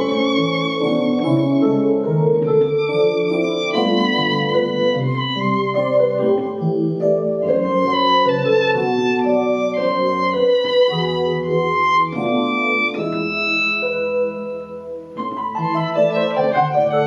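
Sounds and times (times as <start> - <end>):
violin playing slow melody: 0.0 - 17.0.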